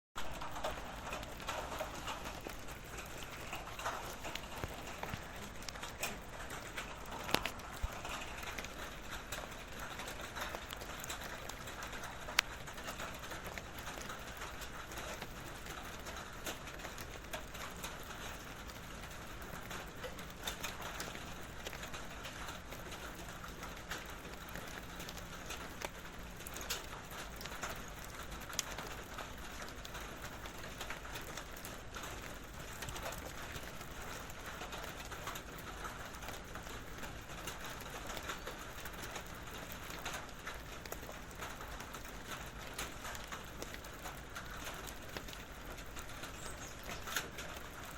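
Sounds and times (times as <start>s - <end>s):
outdoor ambience: 0.2s - 47.9s
rain pattering on metal barrel: 0.2s - 47.9s.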